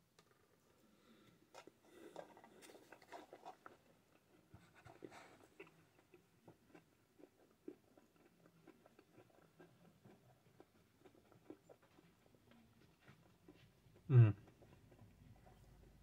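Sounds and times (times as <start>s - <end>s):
chewing with mouth closed: 1.5s - 16.0s.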